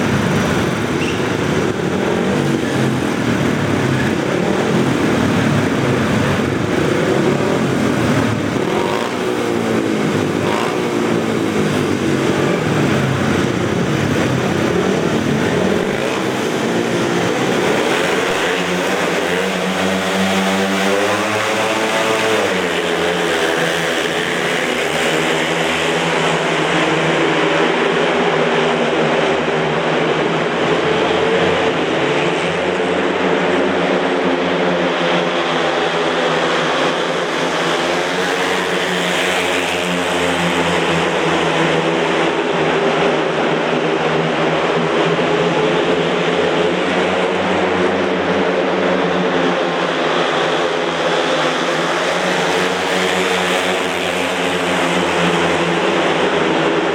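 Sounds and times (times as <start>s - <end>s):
racing motorcycle engines: 0.0s - 56.9s.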